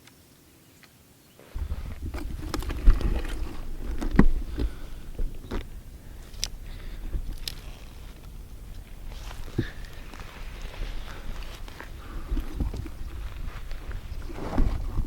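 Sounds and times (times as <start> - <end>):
footsteps crunching on dry brush: 1.4 - 15.0
low microphone rumble: 1.5 - 15.0.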